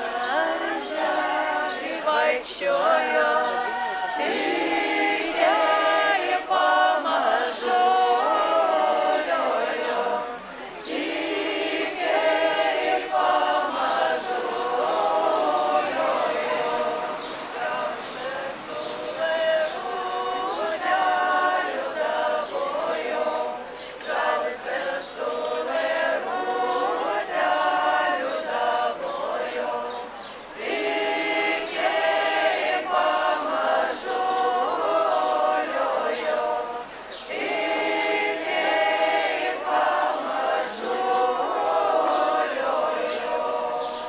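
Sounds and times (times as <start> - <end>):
women singing a cappella: 0.0 - 44.0.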